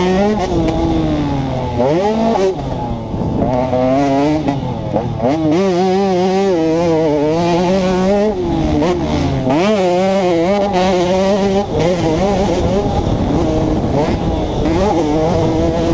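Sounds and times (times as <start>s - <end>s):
two-stroke engine revving: 0.0s - 15.9s.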